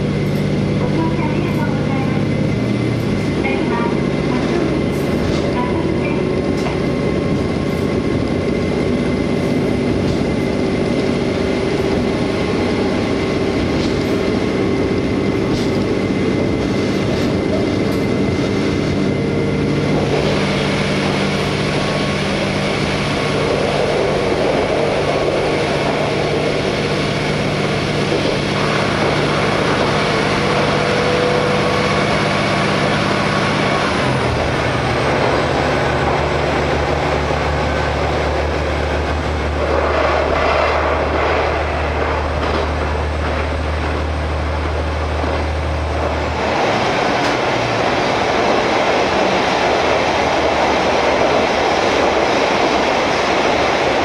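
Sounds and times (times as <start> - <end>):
diesel engine drone: 0.0 - 54.0
wheels rolling on rail: 0.0 - 54.0.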